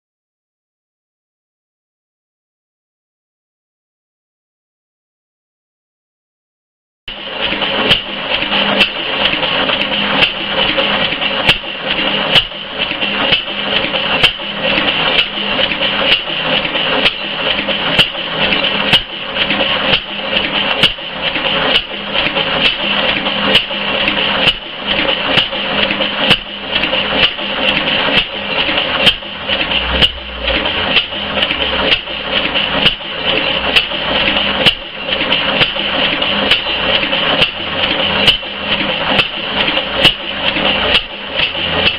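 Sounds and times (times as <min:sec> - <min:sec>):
stationary gas engine clattering: 0:07.1 - 0:41.9.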